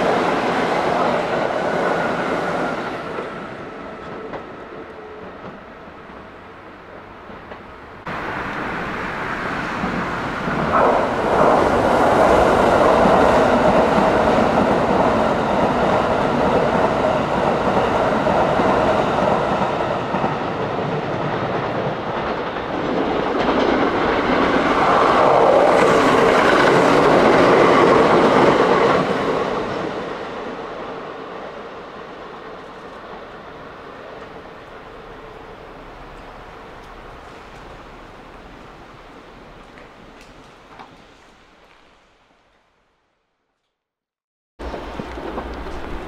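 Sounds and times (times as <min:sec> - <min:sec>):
electric train running past: 0:00.0 - 0:41.8, 0:44.6 - 0:46.0.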